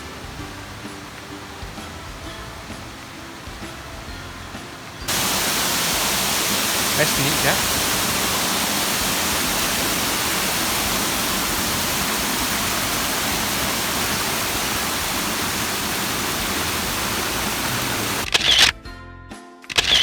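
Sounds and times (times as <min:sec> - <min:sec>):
waterfall roaring: 0:00.0 - 0:18.2.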